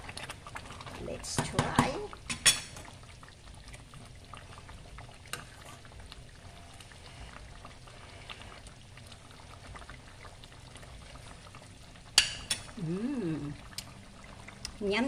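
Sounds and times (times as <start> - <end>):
sauce bubbling in a pot: 0.0 - 15.0.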